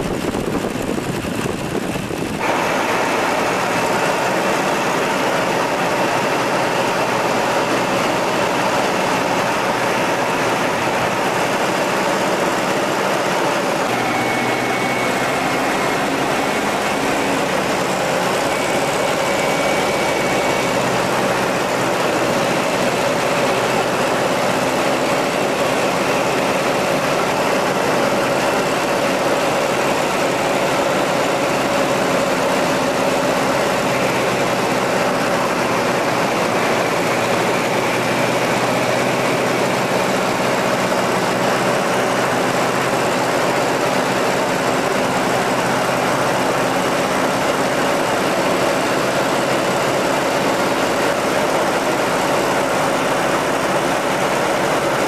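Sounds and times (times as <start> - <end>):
biplane engine droning: 0.0 - 55.0.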